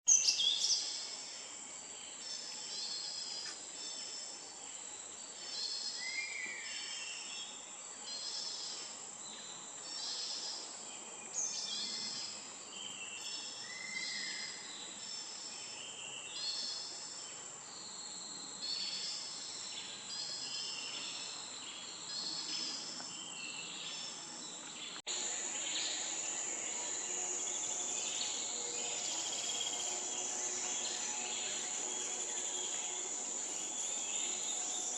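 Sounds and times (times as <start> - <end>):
high-pitched insect drone: 0.1 - 34.9.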